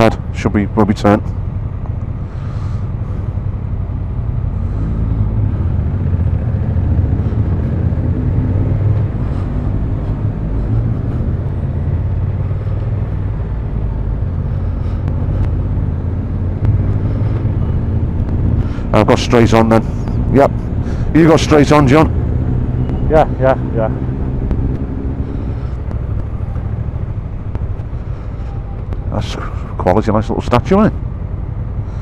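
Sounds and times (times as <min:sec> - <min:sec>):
motorcycle engine droning: 0:00.0 - 0:32.0
wind and road noise: 0:00.0 - 0:32.0.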